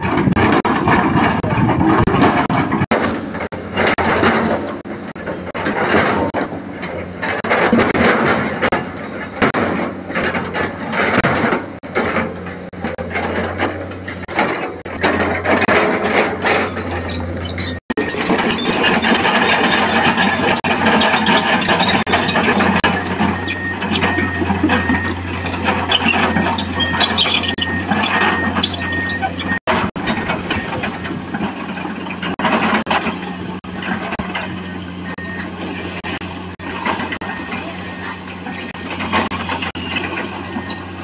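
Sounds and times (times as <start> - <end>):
excavator diesel engine running: 0.0 - 41.0
metallic squealing and clanking tracks: 0.0 - 41.0.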